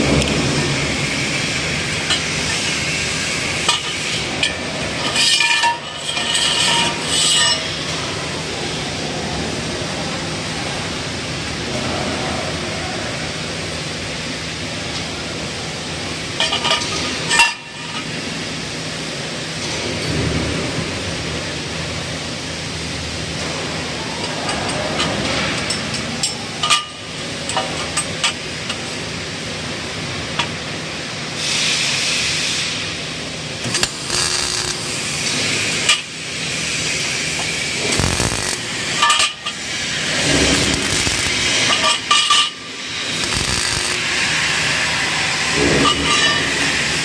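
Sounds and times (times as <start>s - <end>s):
welding arc hiss and crackle: 0.0s - 11.8s, 12.5s - 47.0s
steady factory hum: 0.0s - 47.0s.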